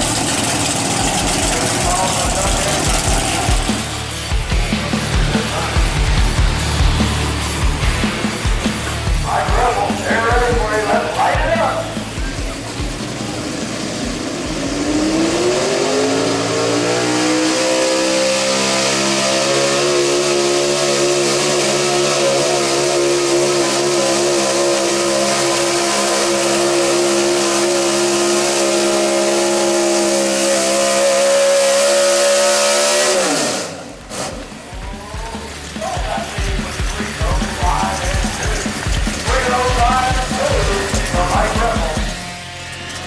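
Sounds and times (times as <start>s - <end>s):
pickup truck engine at full throttle: 0.0s - 43.0s.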